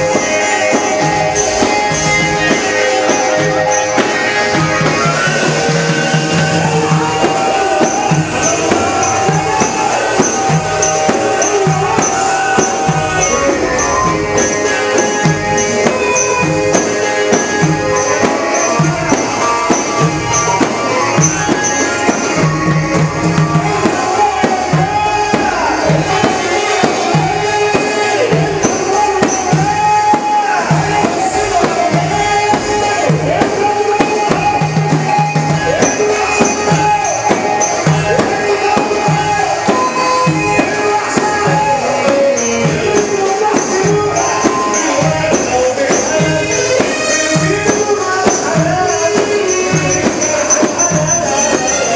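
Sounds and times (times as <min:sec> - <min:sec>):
party band playing: 0:00.0 - 0:51.9
pitch-bending melody line: 0:00.0 - 0:51.9
tambourine and drums beat: 0:00.0 - 0:51.9.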